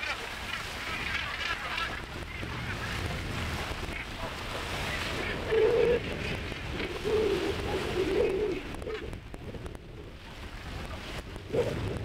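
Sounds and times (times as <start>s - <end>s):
sea noise: 0.0s - 12.0s
wind on microphone: 0.0s - 12.0s.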